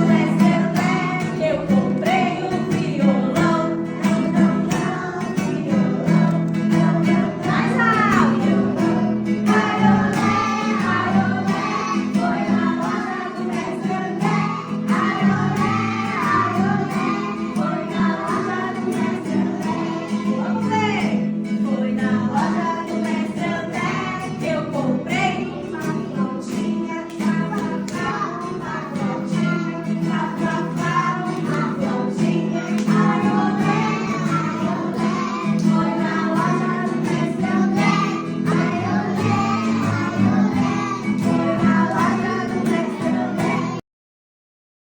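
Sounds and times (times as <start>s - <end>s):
children singing: 0.0s - 43.8s.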